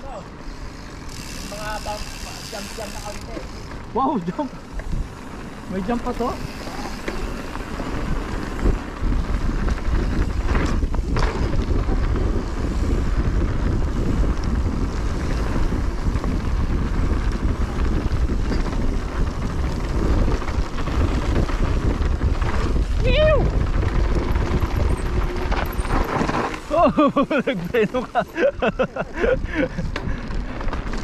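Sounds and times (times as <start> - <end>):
wind buffeting microphone: 0.4 - 31.0.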